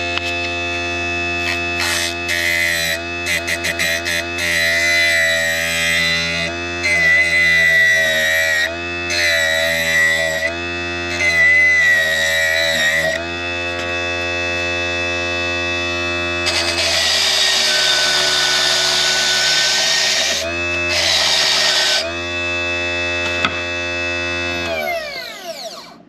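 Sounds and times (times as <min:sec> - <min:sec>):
motor whining: 0:00.0 - 0:26.0.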